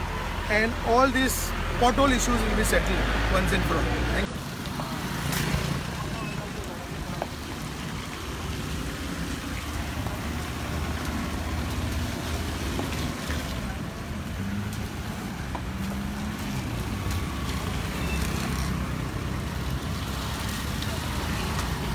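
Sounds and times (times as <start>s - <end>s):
car engines passing: 0.0s - 21.9s
steady low traffic rumble: 0.0s - 21.9s
truck engine: 0.0s - 21.9s
scooters passing: 1.6s - 21.9s.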